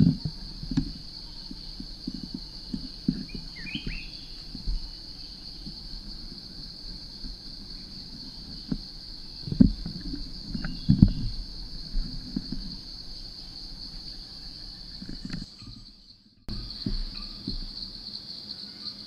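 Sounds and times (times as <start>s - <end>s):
insect chorus chirring: 0.0s - 19.0s.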